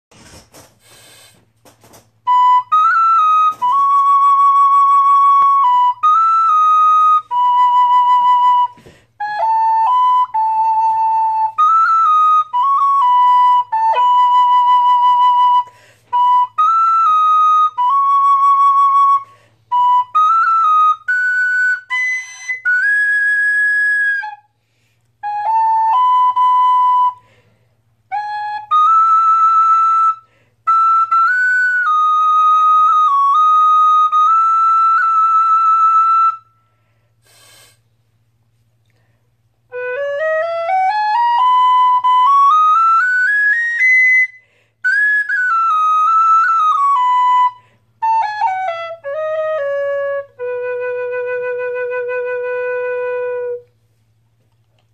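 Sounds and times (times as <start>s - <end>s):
tin whistle melody: 0.8s - 37.7s, 39.7s - 53.8s.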